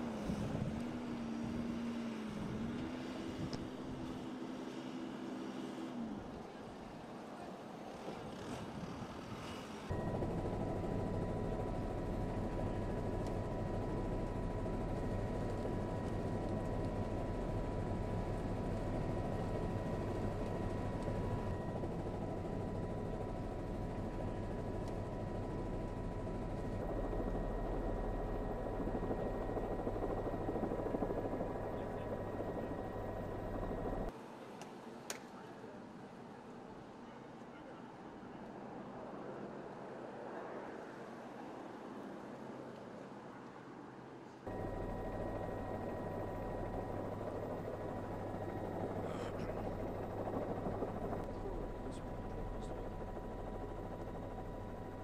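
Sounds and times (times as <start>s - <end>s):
helicopter engine and rotor noise: 0.0s - 34.2s, 44.4s - 55.0s.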